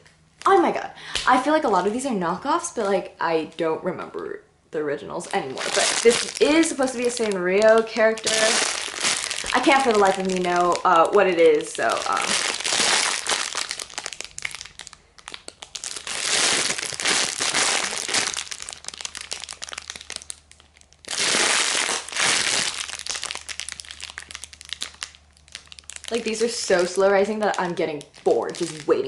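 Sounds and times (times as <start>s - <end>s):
plastic bag crinkling: 5.2s - 29.0s.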